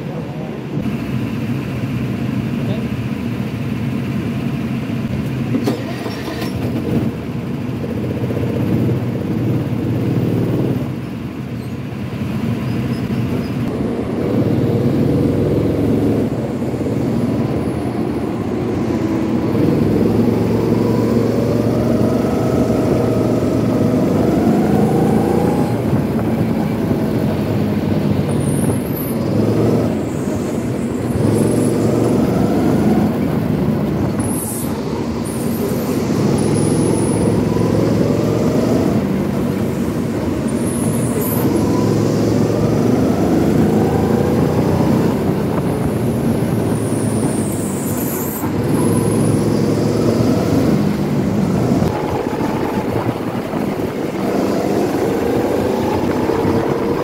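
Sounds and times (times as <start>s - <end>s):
go-kart motor whine: 5.5s - 7.2s, 12.6s - 57.0s.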